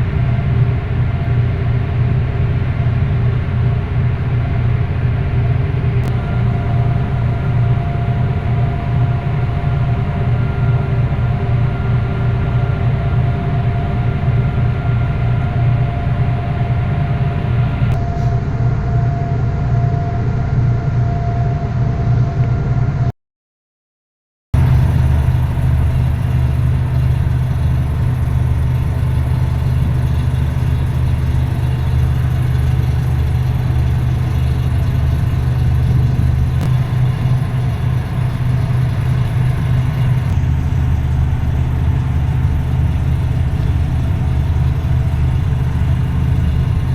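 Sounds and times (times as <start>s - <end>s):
engine droning: 0.0s - 22.8s, 24.6s - 46.9s.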